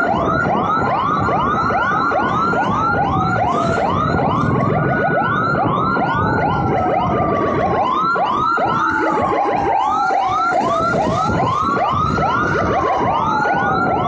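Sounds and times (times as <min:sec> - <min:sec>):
rapid chirping siren: 0:00.0 - 0:14.0
wailing siren: 0:00.0 - 0:14.0.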